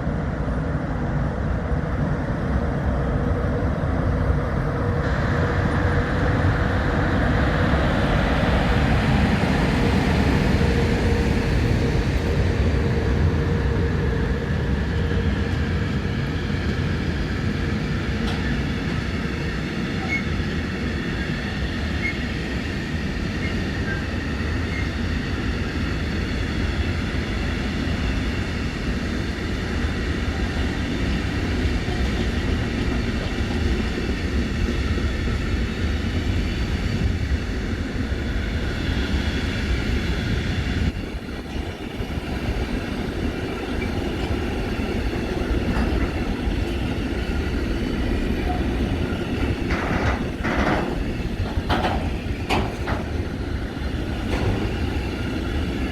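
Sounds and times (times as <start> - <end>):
train rumbling: 0.0 - 55.9.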